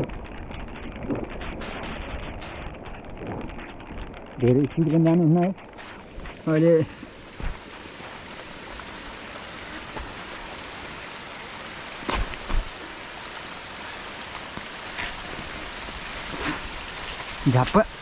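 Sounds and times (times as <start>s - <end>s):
bike riding noise: 0.0s - 18.0s
rain hissing: 0.0s - 18.0s.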